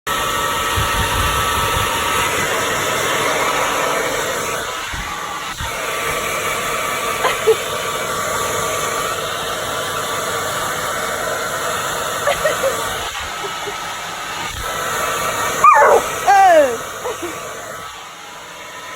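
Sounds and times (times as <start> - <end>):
hairdryer blowing: 0.1 - 18.9.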